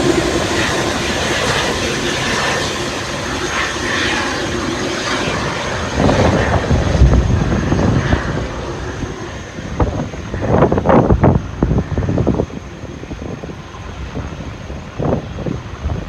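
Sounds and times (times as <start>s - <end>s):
jet engines running: 0.0s - 16.0s
wind gusts on microphone: 0.0s - 16.0s.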